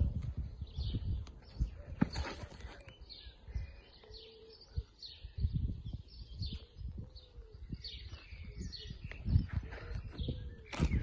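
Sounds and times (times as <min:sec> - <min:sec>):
birds chirping and calling: 0:00.0 - 0:11.0.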